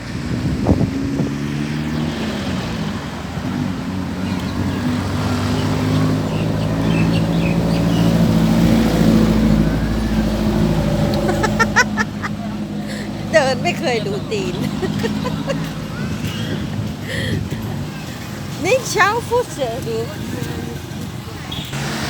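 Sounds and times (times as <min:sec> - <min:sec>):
engine running: 0:00.0 - 0:18.5.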